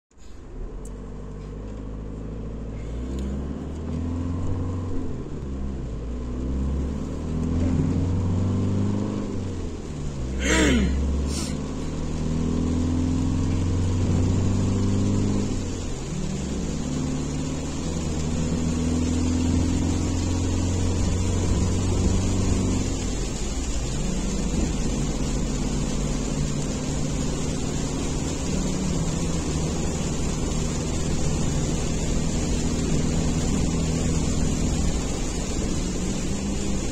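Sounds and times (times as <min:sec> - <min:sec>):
car engine and road noise: 0:00.0 - 0:36.9.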